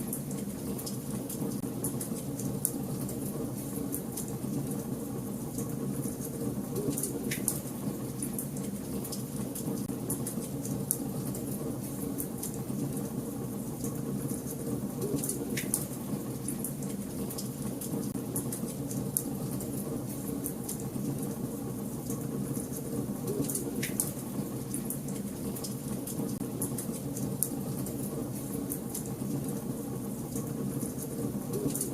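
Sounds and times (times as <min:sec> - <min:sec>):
fire crackling in fireplace: 0:00.0 - 0:31.9.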